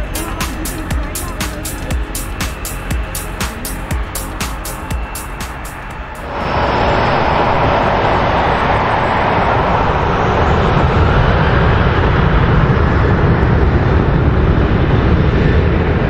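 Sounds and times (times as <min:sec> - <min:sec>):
jet engines at high thrust: 0:00.0 - 0:16.0.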